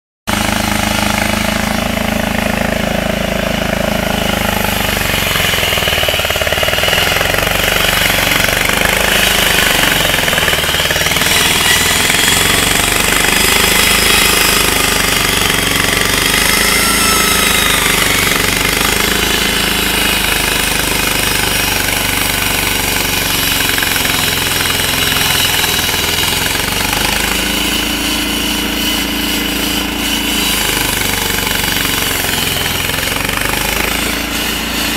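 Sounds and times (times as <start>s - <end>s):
concrete saw cutting pavement: 0.3s - 34.9s.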